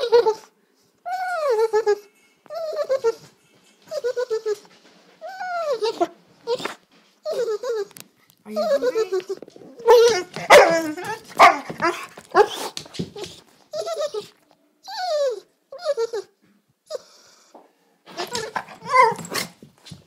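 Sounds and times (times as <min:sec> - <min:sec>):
dog whining and whimpering: 0:00.0 - 0:17.5, 0:18.1 - 0:19.6.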